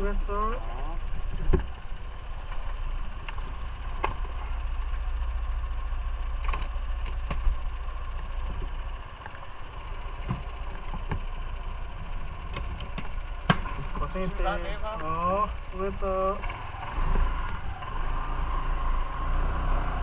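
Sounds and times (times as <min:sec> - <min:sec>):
motorcycle engine idling: 0:00.0 - 0:19.2.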